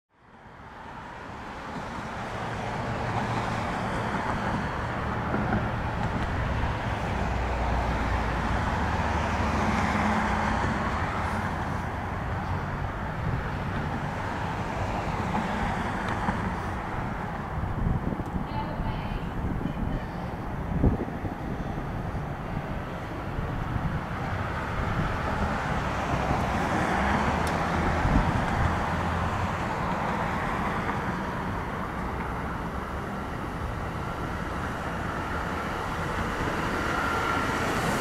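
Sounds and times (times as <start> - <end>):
train wheels rumbling on rail: 1.6 - 38.0.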